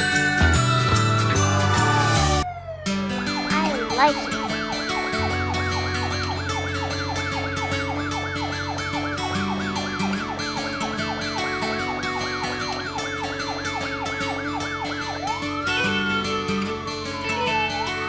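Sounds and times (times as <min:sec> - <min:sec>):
background music: 0:00.0 - 0:18.0
fast electronic siren: 0:00.1 - 0:18.0.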